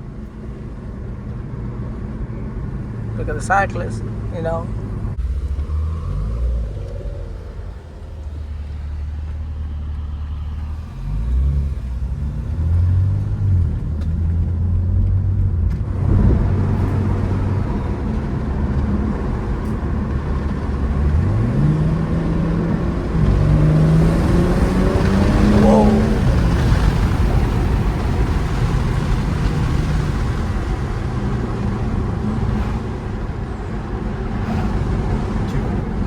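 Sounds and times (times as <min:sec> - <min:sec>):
car engine accelerating: 0:00.0 - 0:36.0
tyre and road noise: 0:00.0 - 0:36.0.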